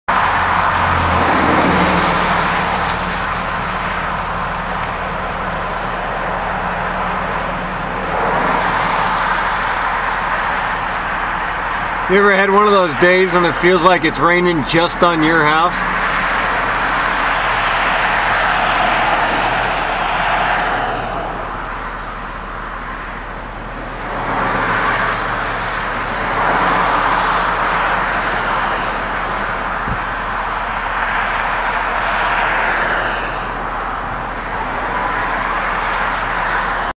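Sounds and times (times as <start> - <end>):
highway traffic passing: 0.1 - 36.9.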